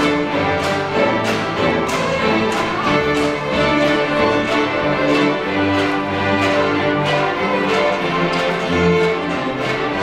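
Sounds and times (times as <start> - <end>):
string orchestra playing folk tune: 0.0 - 10.0.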